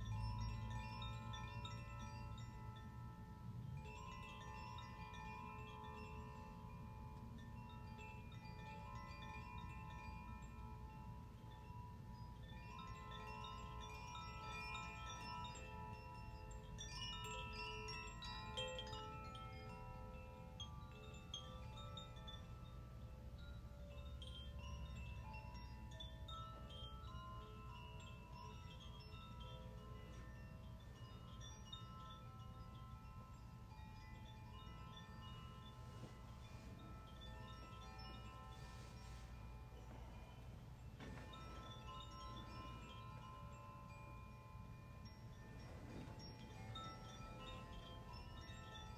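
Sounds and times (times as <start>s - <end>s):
chimes ringing: 0.0s - 48.9s.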